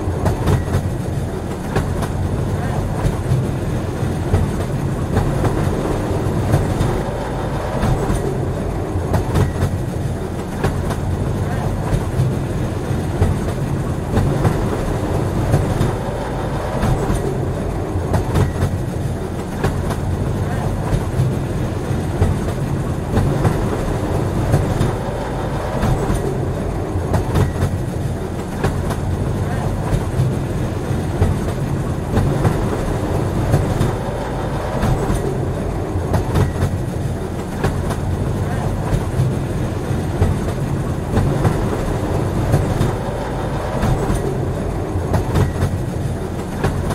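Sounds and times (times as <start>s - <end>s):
railway cars rumbling on track: 0.0s - 46.9s
wheels clacking over rail joints: 0.0s - 46.9s.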